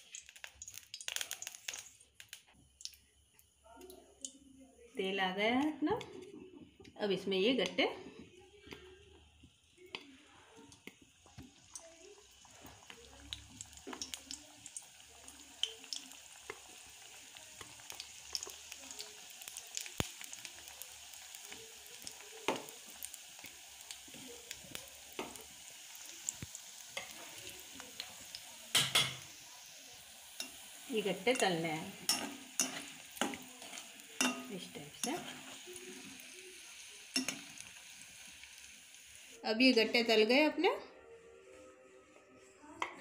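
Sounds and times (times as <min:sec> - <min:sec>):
dumplings sizzling in hot oil: 0:00.0 - 0:06.0, 0:06.7 - 0:39.7.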